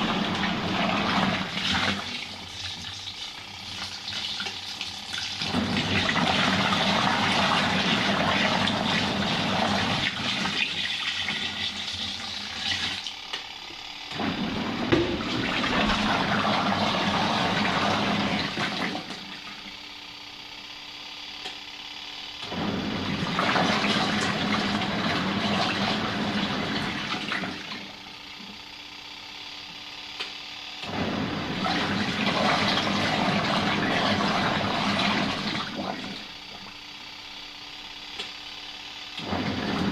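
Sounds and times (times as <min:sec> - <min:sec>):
washing machine churning water: 0:00.0 - 0:20.8, 0:22.3 - 0:39.9.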